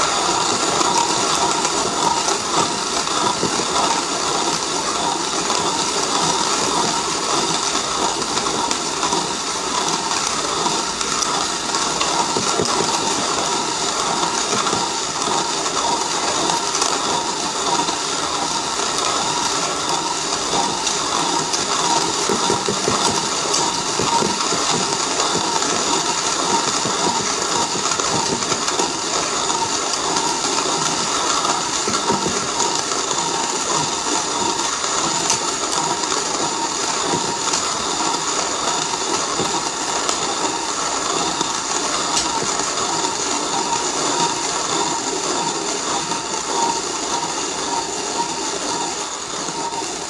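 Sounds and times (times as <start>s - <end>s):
hand coffee grinder grinding: 0.0s - 50.0s.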